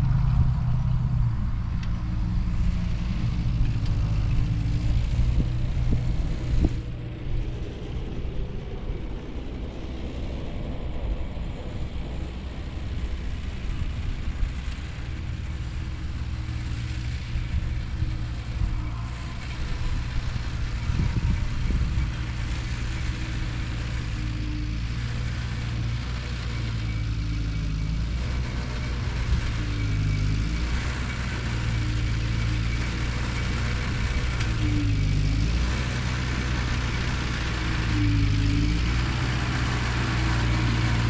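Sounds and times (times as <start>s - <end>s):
tractor engine humming: 0.0s - 41.0s.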